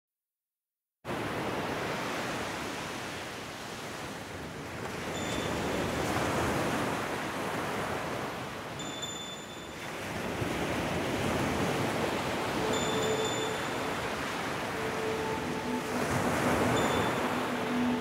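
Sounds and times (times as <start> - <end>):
waves breaking on beach: 1.1 - 18.0.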